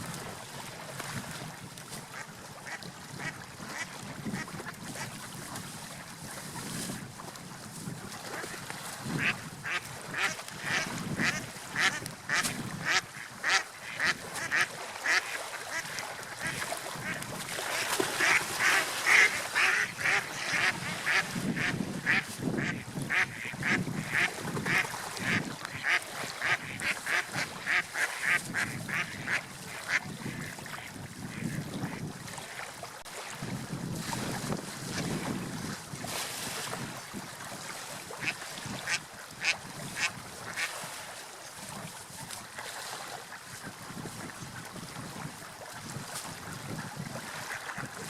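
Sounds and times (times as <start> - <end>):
sea waves washing: 0.0 - 48.0.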